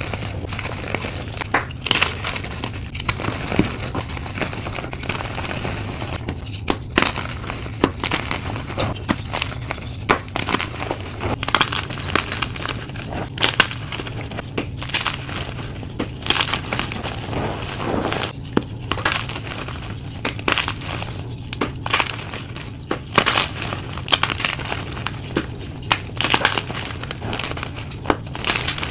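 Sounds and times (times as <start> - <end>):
chalk crunching and crumbling: 0.0 - 28.9.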